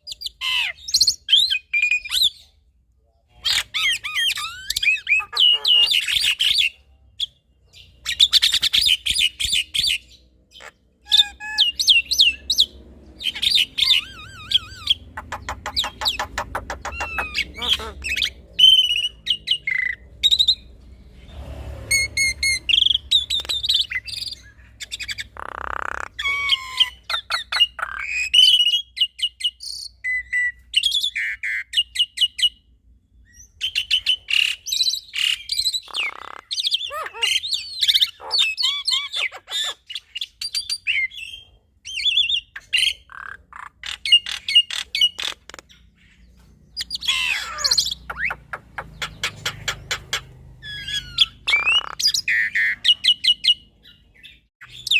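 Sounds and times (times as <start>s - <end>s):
birds chirping and whistling: 0.0s - 2.6s, 3.3s - 54.9s.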